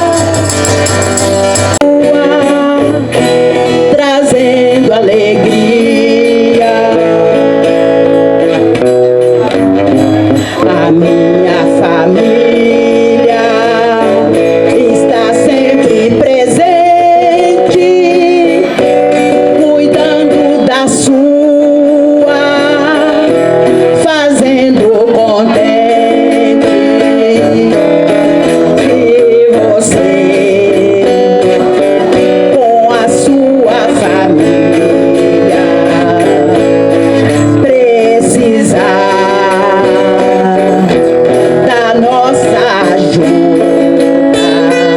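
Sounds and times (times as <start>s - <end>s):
guitar plucked and strummed: 0.0s - 44.9s
person singing: 0.0s - 44.9s.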